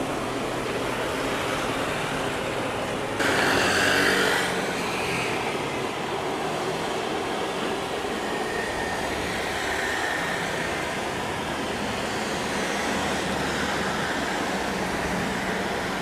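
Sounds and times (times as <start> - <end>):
jet engine rushing and whining: 0.0 - 16.0.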